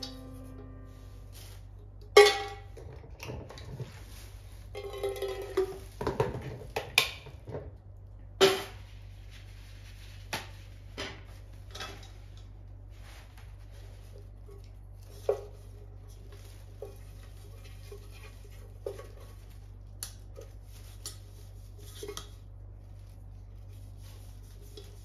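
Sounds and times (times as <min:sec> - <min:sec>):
plastic bag rustling: 0:00.0 - 0:01.9, 0:02.6 - 0:06.8, 0:08.7 - 0:25.0.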